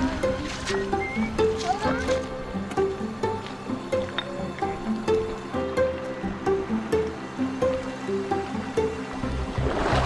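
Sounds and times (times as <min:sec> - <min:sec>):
background music melody: 0:00.0 - 0:10.0.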